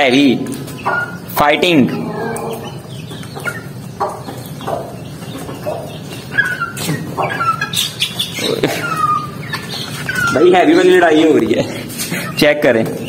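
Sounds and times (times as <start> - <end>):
hens clucking and chirping: 0.0 - 13.0.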